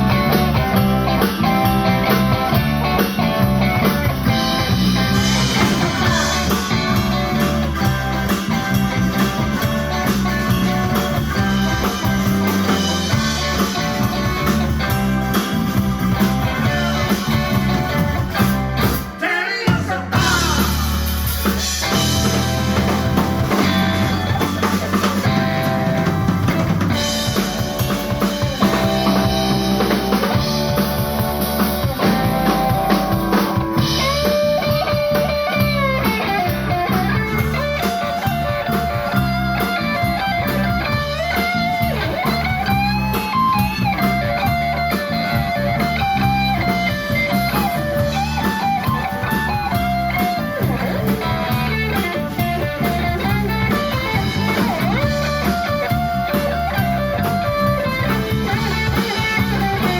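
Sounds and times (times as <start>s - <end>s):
blues-rock band playing: 0.0s - 59.9s
drum kit: 0.0s - 59.9s.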